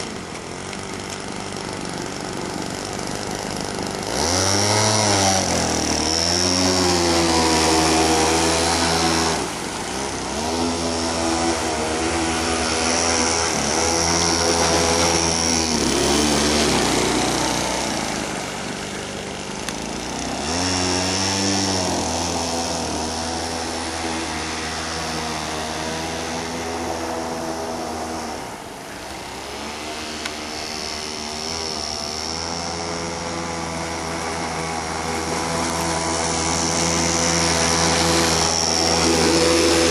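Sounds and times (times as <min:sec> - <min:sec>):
two-stroke boat engine revving: 0:00.0 - 0:39.9.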